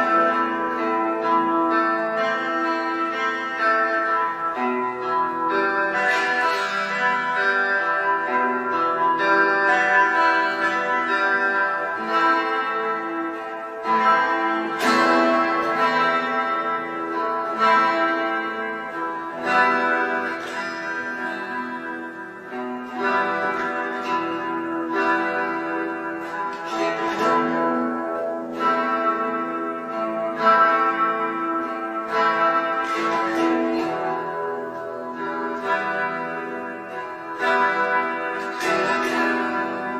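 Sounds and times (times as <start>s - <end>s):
guitar chord strummed: 0.0s - 39.9s
plucked electric guitar melody: 0.0s - 39.9s.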